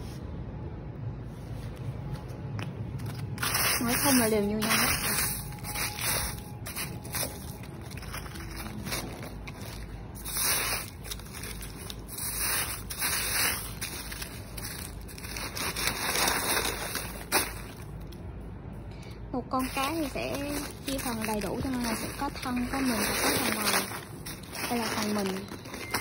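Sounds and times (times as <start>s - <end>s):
crushed ice crunching and scraping: 3.0s - 18.2s, 19.4s - 26.0s.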